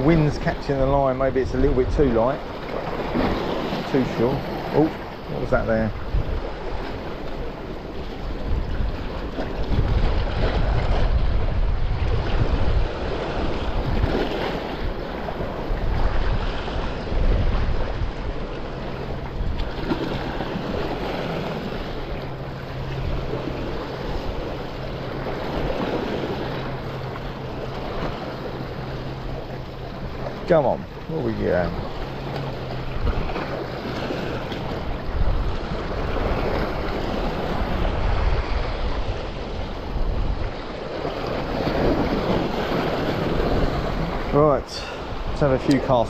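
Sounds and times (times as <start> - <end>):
sea washing against rocks: 0.0 - 46.0
wind rumbling on microphone: 0.0 - 46.0.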